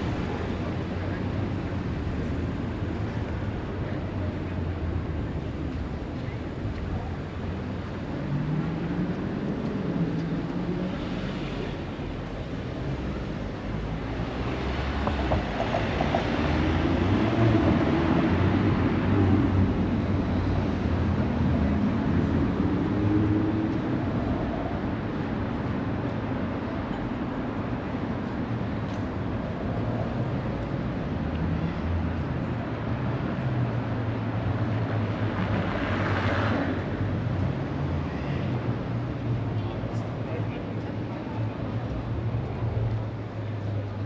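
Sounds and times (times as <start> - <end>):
city traffic rumble: 0.0 - 44.0.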